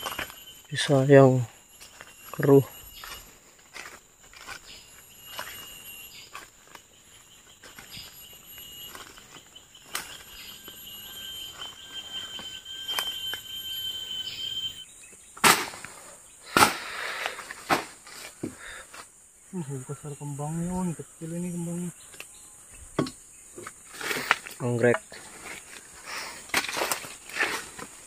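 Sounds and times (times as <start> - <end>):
insects buzzing: 0.0 - 28.0
pulsing insect trill: 0.0 - 28.0
rustle: 0.0 - 28.0.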